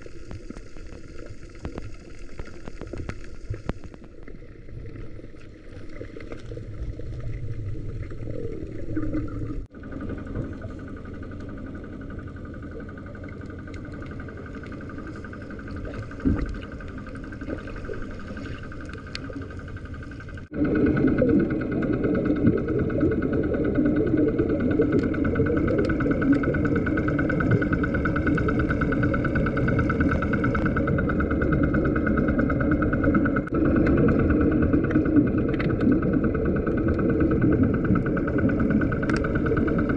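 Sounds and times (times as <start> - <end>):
engine drone underwater: 0.0 - 39.9.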